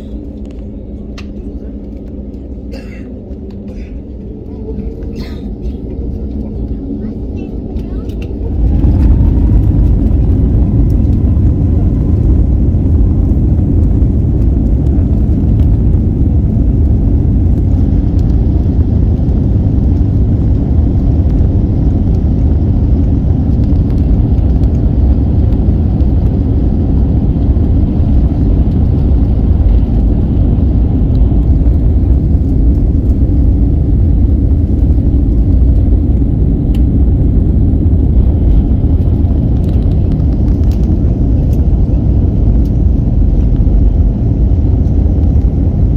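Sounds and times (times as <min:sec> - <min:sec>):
engine whine: 0:00.0 - 0:45.9
jet engines rumbling in cabin: 0:00.0 - 0:45.9.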